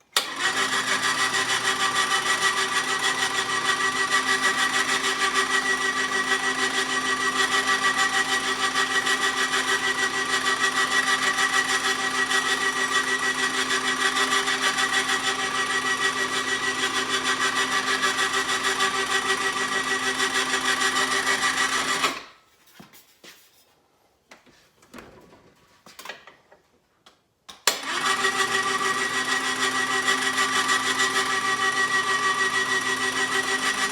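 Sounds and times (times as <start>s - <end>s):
bead roller motor with gear whine: 0.3s - 22.2s, 27.9s - 33.9s.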